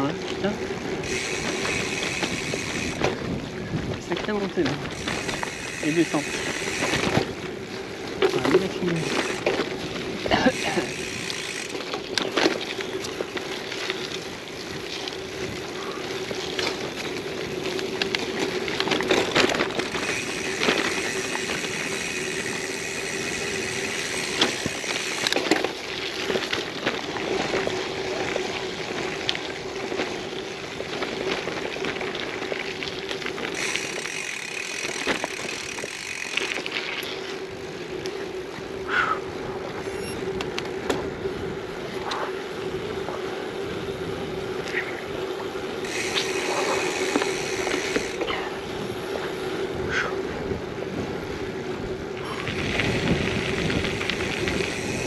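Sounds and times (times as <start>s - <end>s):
bike knocking and rattling: 0.0s - 55.0s
bike tyre riding noise: 0.0s - 55.0s.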